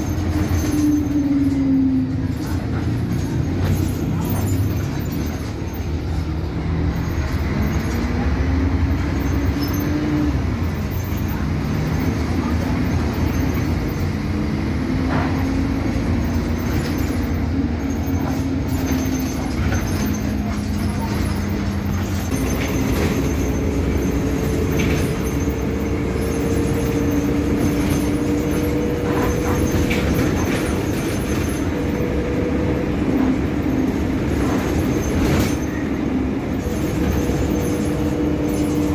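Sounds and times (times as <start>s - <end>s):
bus engine rumble: 0.0s - 38.9s.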